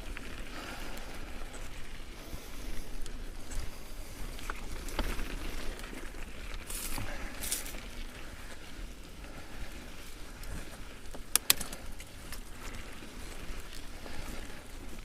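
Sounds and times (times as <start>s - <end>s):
bike tyres crunching on gravel: 0.0s - 15.0s
rider breathing: 0.0s - 15.0s.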